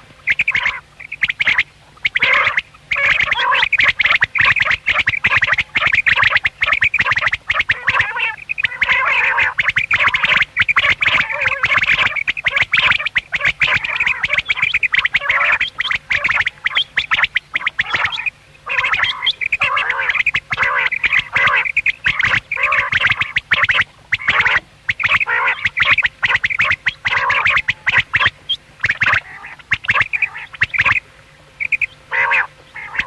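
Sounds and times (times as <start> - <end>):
quail chattering calls: 0.0 - 33.0.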